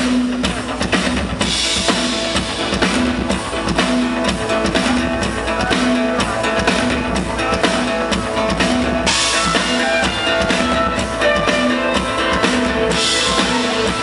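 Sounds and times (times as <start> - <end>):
drum kit beat: 0.0 - 14.0
live band playing: 0.0 - 14.0.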